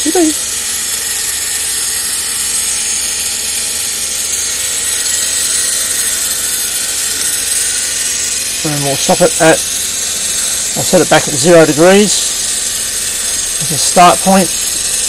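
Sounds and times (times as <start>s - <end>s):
motor and gears whirring: 0.0s - 15.0s.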